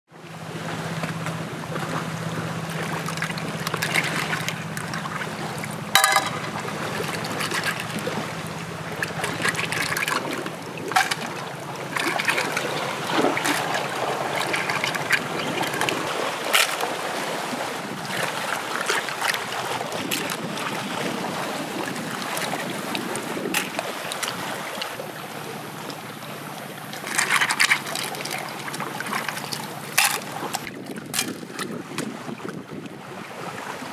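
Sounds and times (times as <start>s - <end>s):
water splashing and trickling: 0.3s - 33.9s.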